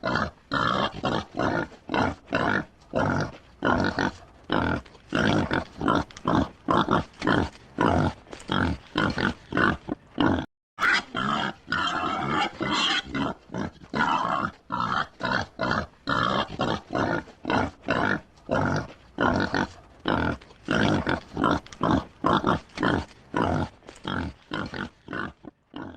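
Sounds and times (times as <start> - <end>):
pigs grunting: 0.0 - 25.9.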